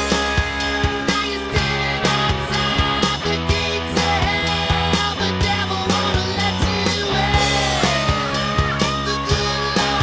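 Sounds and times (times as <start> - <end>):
drums steady beat: 0.0 - 10.0
rock song: 0.0 - 10.0.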